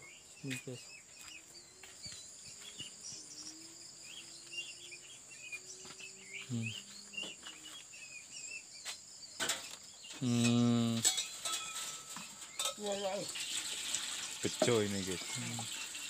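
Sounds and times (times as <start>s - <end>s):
high insect drone: 0.0s - 11.3s, 12.1s - 16.0s
songbirds chirping: 0.0s - 16.0s.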